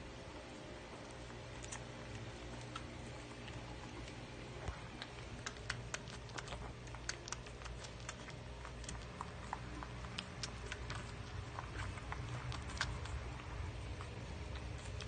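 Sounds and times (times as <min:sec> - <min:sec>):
low steady hum: 0:00.0 - 0:15.0
puppies nursing clicks and smacks: 0:00.0 - 0:15.0.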